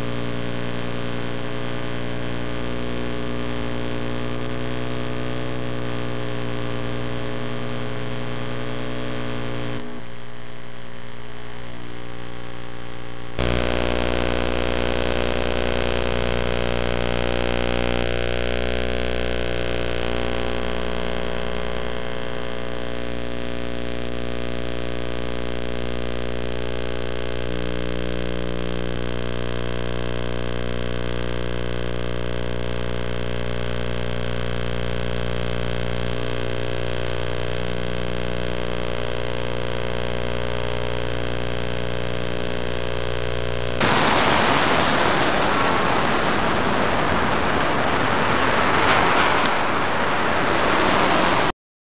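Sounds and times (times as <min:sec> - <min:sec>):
steady hum with overtones: 0:00.0 - 0:50.4.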